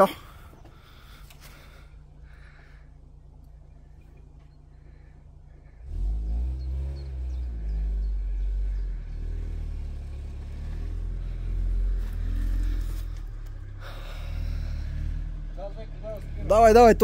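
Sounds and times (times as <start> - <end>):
van engine revving: 0.0 - 17.0.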